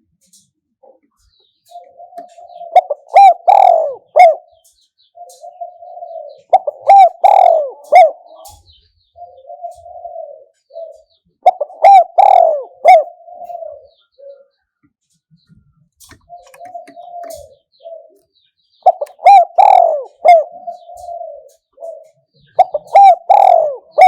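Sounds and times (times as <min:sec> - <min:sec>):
dove cooing: 0:00.0 - 0:14.7, 0:16.0 - 0:24.0.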